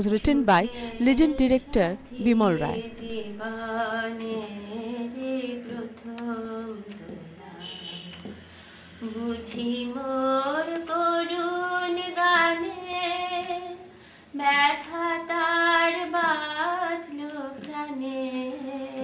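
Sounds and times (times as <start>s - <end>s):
woman singing slow melody: 0.6s - 8.0s, 9.0s - 13.8s, 14.4s - 19.0s.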